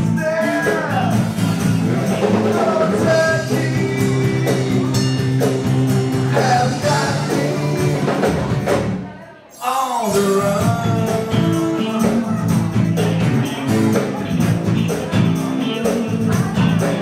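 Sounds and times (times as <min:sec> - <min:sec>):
man singing: 0:00.0 - 0:08.8, 0:09.6 - 0:17.0
drum kit: 0:00.0 - 0:09.1, 0:10.1 - 0:17.0
electric bass: 0:00.0 - 0:09.1, 0:10.2 - 0:17.0
acoustic guitar: 0:00.0 - 0:17.0.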